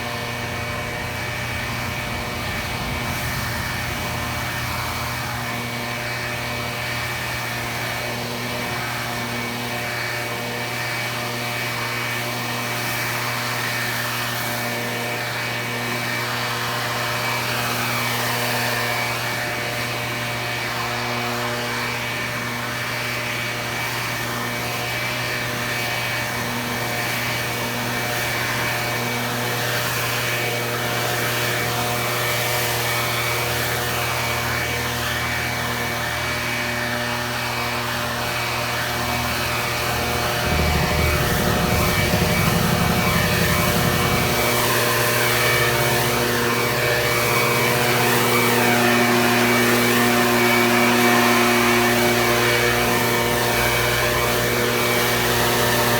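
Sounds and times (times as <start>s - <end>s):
small gasoline engine running: 0.0s - 55.9s.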